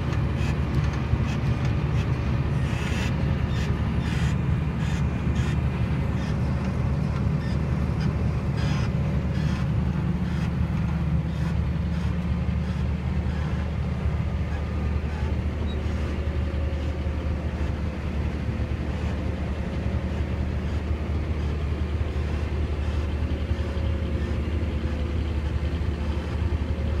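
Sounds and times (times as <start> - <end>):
tractor engine low drone: 0.0 - 27.0.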